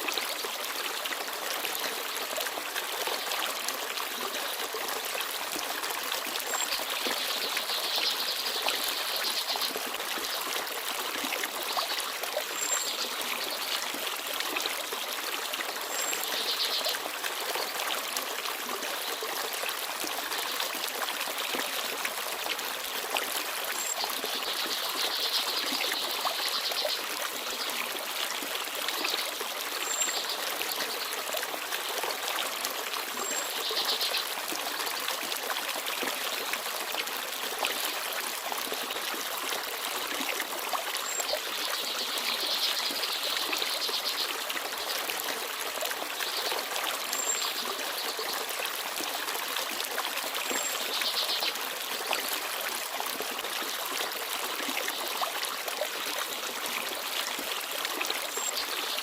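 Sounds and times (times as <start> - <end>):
stream babbling and trickling: 0.0 - 59.0.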